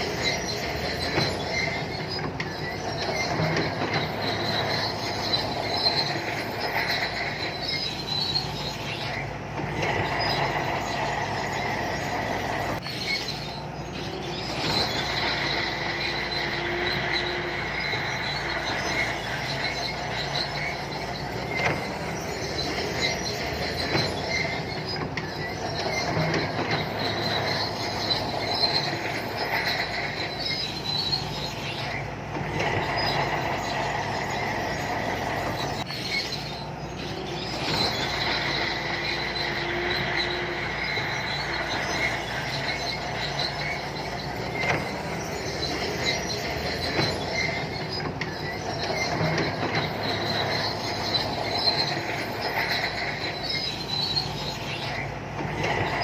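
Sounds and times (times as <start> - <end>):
bulldozer diesel engine: 0.0 - 56.0
steel tracks squealing: 0.0 - 56.0
track clanks: 0.0 - 56.0.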